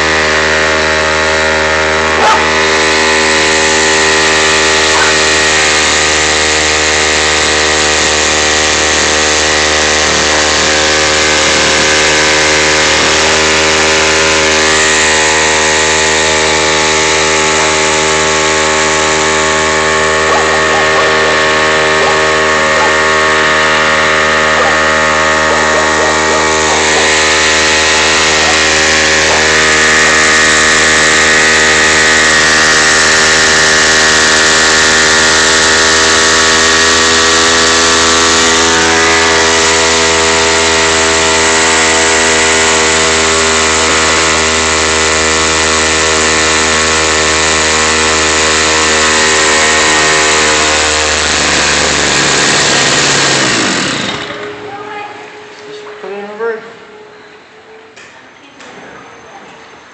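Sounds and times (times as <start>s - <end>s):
small outboard motor running: 0.0s - 56.2s.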